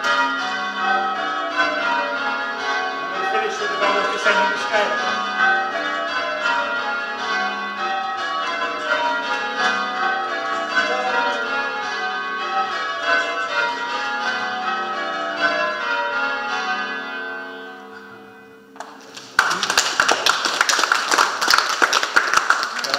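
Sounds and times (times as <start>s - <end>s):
church bells change ringing: 0.0s - 22.7s.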